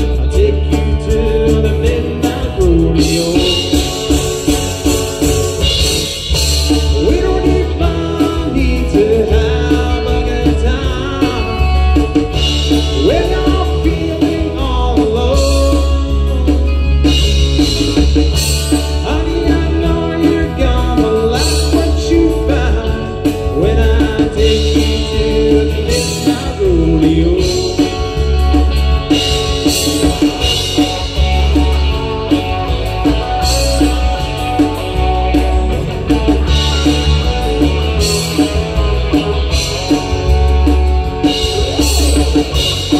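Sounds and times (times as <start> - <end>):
lead singer singing: 0.0 - 4.8, 5.7 - 42.9
live rock band playing: 0.0 - 42.9.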